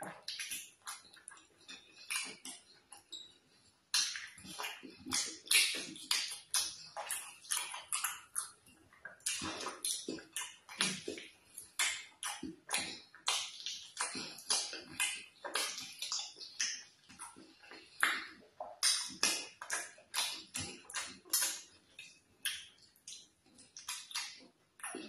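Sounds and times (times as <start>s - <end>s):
wet chewing and lip smacks: 0.0s - 25.0s.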